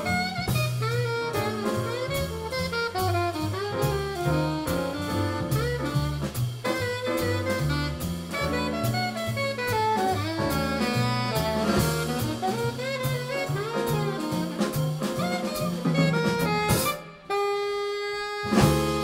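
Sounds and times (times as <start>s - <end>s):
electric piano: 0.0s - 17.5s, 18.2s - 19.0s
double bass: 0.0s - 19.0s
drum kit with cymbals: 0.0s - 19.0s
saxophone melody: 0.0s - 19.0s.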